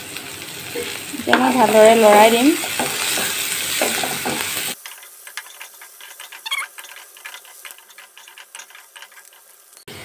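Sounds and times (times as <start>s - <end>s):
vegetables frying in oil: 0.0s - 10.0s
spatula scraping pan: 0.8s - 9.9s.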